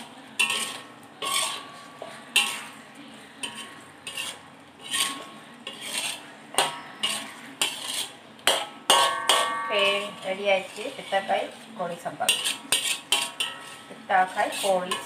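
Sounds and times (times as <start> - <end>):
metal spoon scraping a wok: 0.0 - 15.0.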